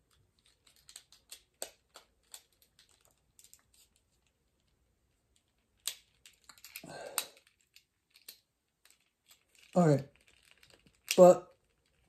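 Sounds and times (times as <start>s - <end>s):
plastic toy parts clicking: 0.0s - 12.0s.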